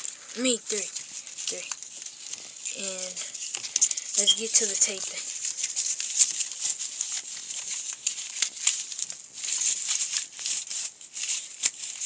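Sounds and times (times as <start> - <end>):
cardboard rustling and crackling: 0.0 - 12.0.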